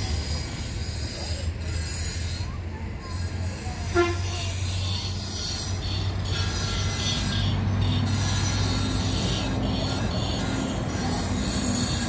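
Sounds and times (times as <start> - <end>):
diesel engine droning: 0.0 - 12.0
high thin squeal and rubbing: 0.0 - 12.0.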